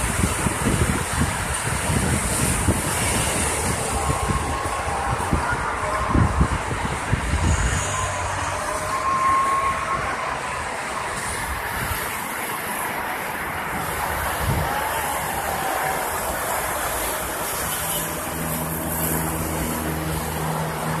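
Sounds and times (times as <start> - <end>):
expressway traffic rushing: 0.0 - 21.0.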